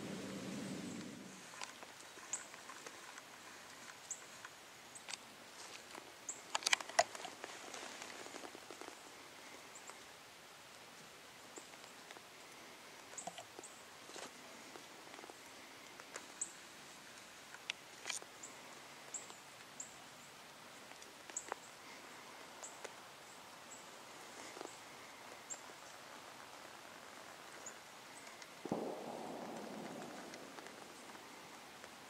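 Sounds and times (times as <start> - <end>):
rustle: 0.0 - 32.0.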